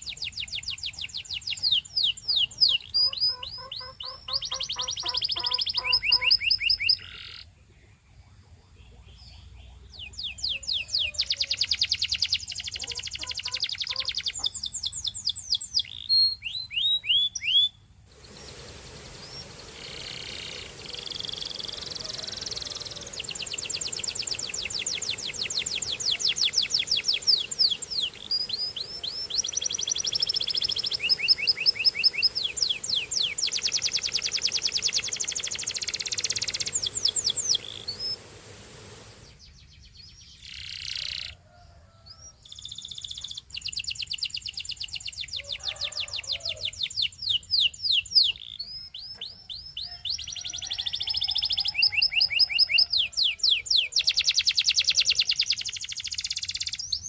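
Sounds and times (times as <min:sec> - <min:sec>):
canary singing trills: 0:00.0 - 0:38.4, 0:39.2 - 0:41.4, 0:42.0 - 0:57.0.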